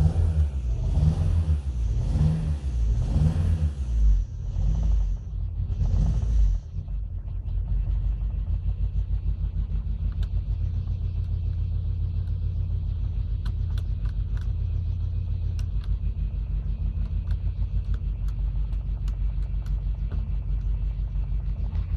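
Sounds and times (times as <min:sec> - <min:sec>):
engine running roughly: 0:00.0 - 0:21.9
engine knocking: 0:04.1 - 0:21.9.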